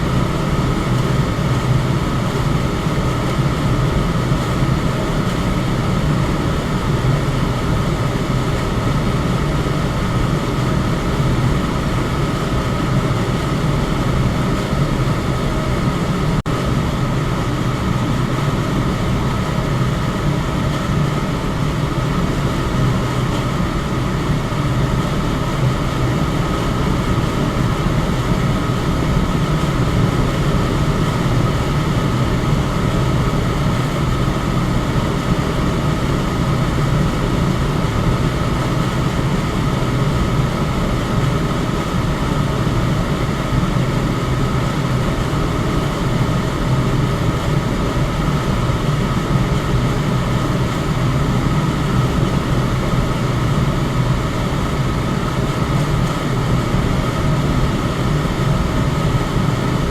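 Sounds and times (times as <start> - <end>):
electric fan rushing air: 0.0 - 59.9
faint steady whine: 0.0 - 59.9.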